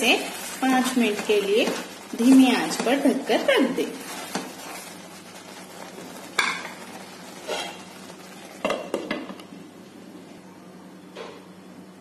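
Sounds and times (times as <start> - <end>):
thick mixture bubbling in a pan: 0.0 - 10.4.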